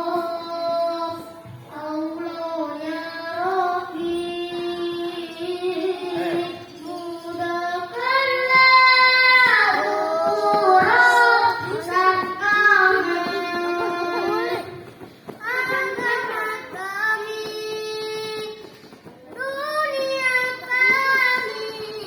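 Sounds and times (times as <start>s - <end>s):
child singing: 0.0s - 22.0s.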